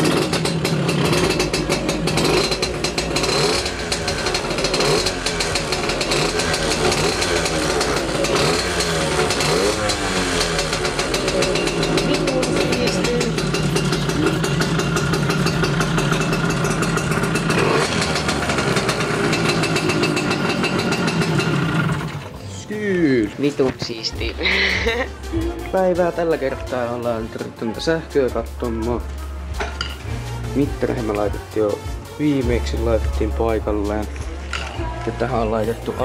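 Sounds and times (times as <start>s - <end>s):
moped engine revving: 0.0s - 36.0s.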